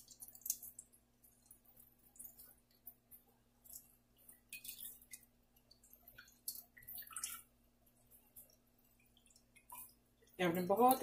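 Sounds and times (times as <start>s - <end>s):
water dripping: 0.0s - 11.0s.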